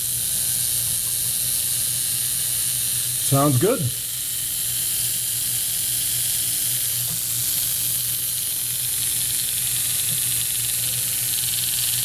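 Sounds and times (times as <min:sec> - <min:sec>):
small electric motor hissing: 0:00.0 - 0:12.0.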